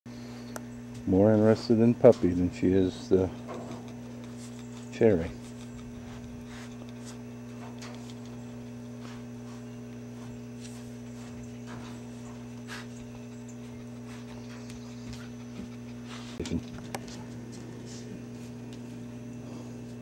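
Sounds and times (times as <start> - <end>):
steady low hum: 0.1 - 20.0
animals scuffling at wire mesh: 0.9 - 19.0.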